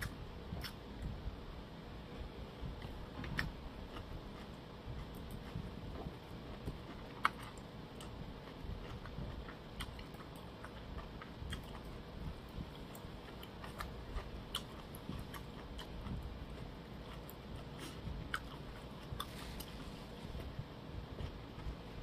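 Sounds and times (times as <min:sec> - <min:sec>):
person chewing food: 0:00.0 - 0:01.1, 0:02.7 - 0:22.0.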